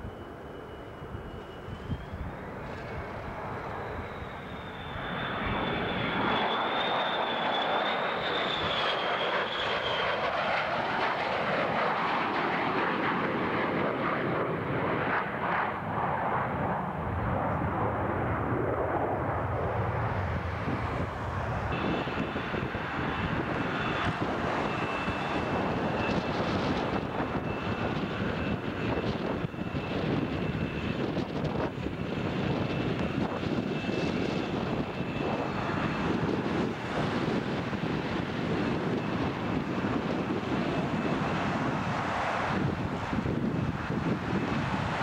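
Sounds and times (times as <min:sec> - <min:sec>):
high turbine whine: 0:00.0 - 0:45.0
jet engine roar: 0:00.0 - 0:45.0.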